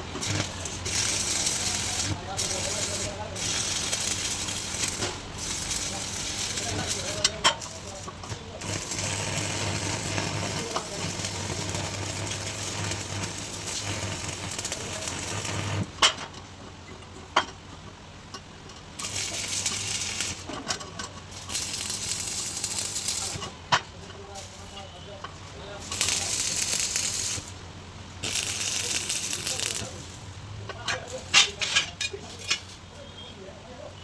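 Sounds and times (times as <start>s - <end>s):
arc welding sizzling and crackling: 0.0s - 16.4s, 18.8s - 33.0s.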